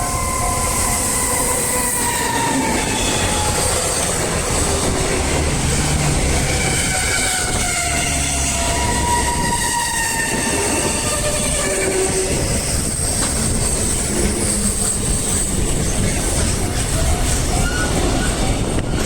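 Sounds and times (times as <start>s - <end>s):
freight train wagons rumbling: 0.0s - 19.0s
squealing train wheels: 0.0s - 19.0s.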